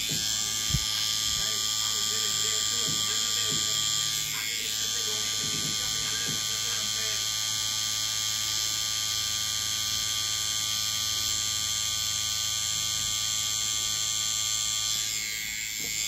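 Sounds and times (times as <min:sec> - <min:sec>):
tattoo machine buzzing: 0:00.0 - 0:16.0.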